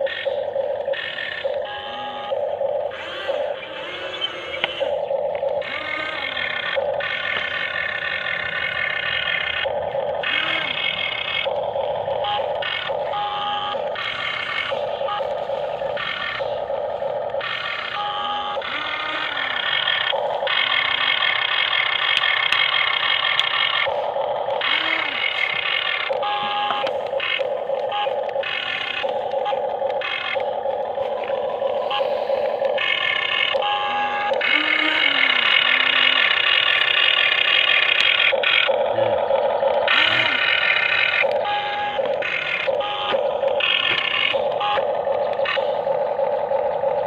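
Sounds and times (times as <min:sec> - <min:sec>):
electric motors whining: 0:00.0 - 0:47.0.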